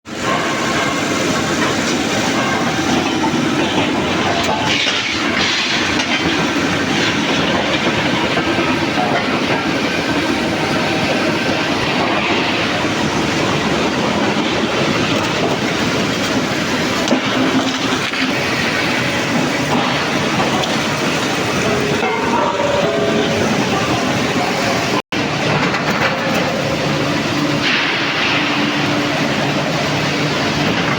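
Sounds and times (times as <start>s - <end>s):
rolling mill machinery rumble: 0.1s - 30.9s.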